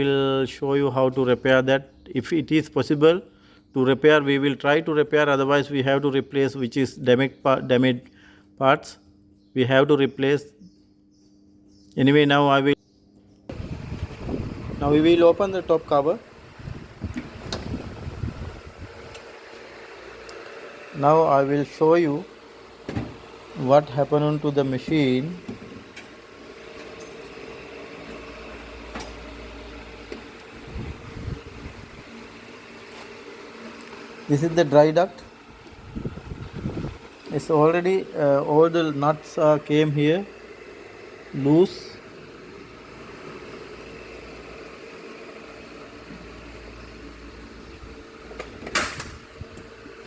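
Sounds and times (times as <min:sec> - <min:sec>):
mechanical hum: 0:00.0 - 0:50.0.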